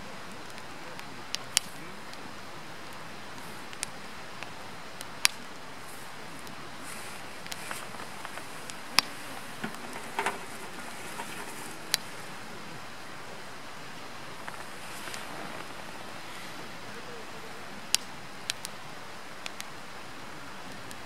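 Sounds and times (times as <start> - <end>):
fire crackles and pops: 0.0 - 21.0
firewood burning hiss: 0.0 - 21.0.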